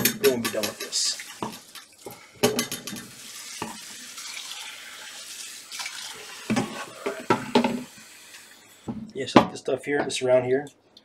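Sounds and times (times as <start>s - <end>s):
tap water running: 0.0s - 9.1s.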